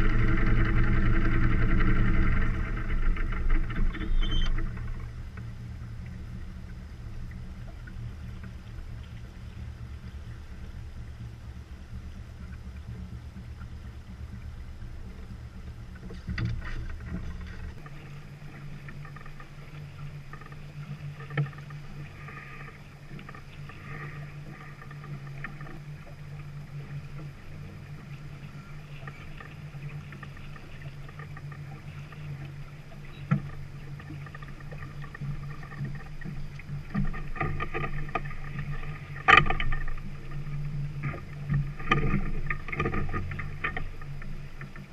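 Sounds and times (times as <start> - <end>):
steady low hum: 0.0 - 44.9
water rushing along hull: 0.0 - 44.9.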